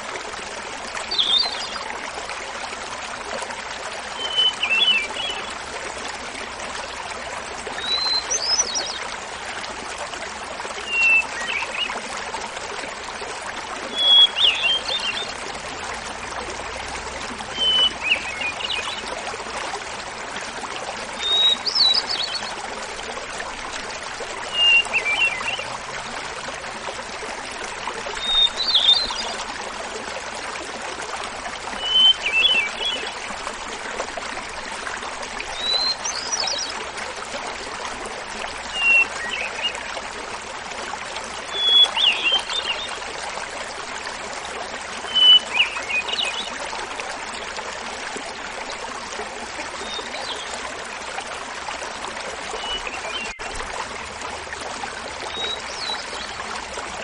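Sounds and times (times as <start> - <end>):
small waterfall babbling: 0.0 - 57.0.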